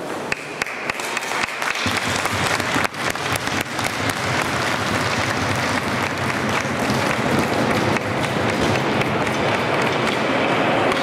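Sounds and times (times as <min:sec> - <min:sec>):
spectators applauding: 0:00.3 - 0:10.6.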